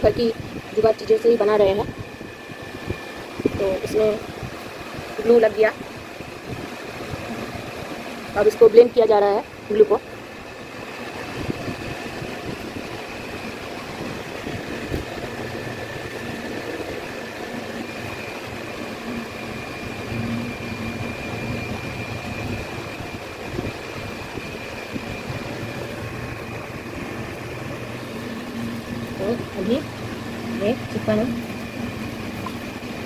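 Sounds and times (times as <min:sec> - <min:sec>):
motor humming with whine: 0:00.0 - 0:33.0.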